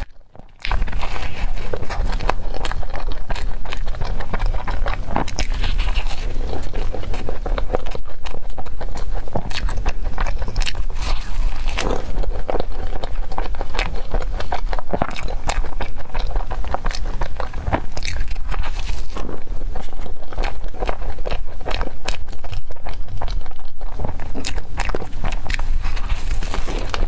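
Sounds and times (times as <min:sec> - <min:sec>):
crunchy biting and chewing: 0:00.0 - 0:27.0.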